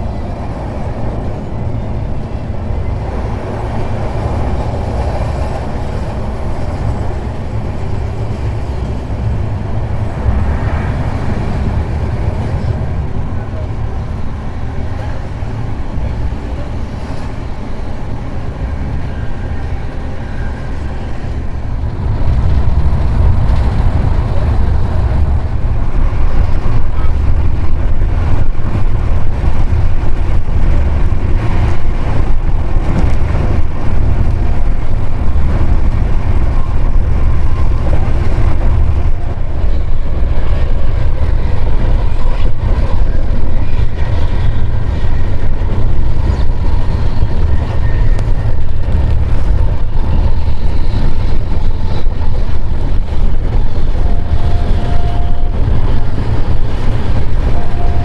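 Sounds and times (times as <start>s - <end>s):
train rumbling on tracks: 0.0s - 58.0s.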